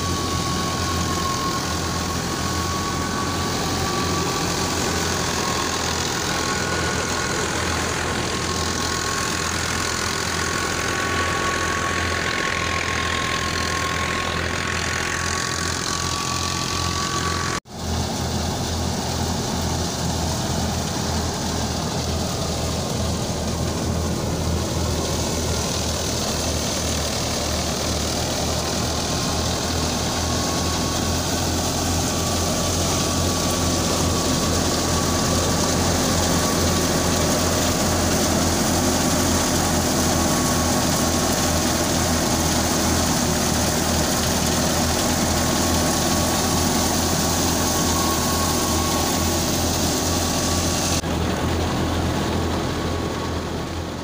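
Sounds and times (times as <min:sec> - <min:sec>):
threshing machine running: 0:00.0 - 0:54.0.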